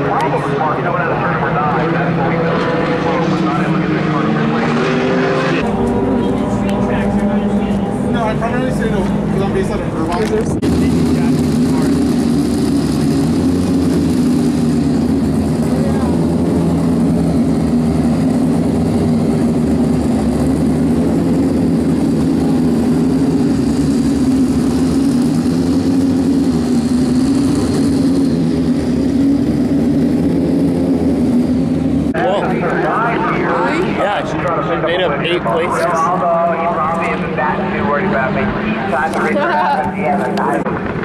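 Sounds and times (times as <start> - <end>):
engines droning: 0.0 - 41.0.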